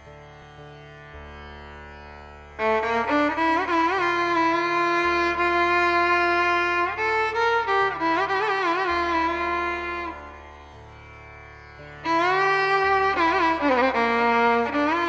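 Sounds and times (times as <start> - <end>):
tanpura drone: 0.0 - 15.0
violin playing a slow melody: 0.0 - 15.0.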